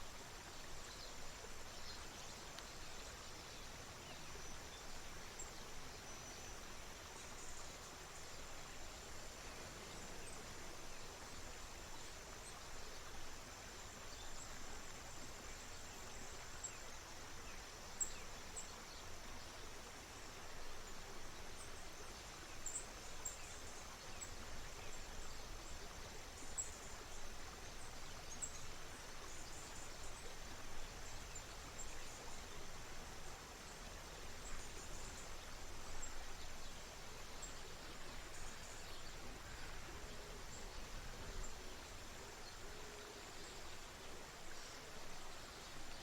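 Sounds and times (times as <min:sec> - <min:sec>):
small stream flowing: 0:00.0 - 0:46.0.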